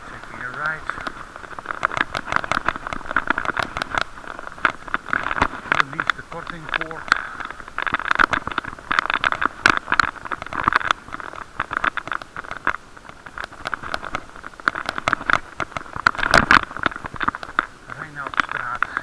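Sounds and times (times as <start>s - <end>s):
muffled road noise: 0.0s - 19.0s.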